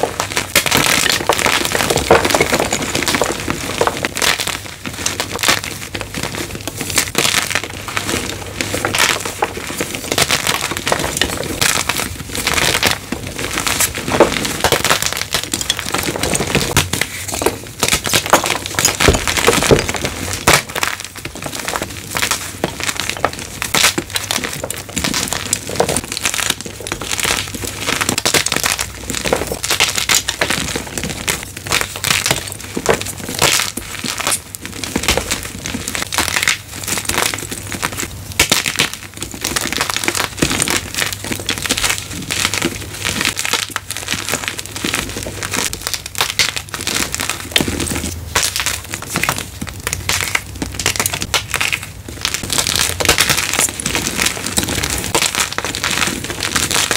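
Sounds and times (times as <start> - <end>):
chalk blocks being crushed: 0.0 - 56.9.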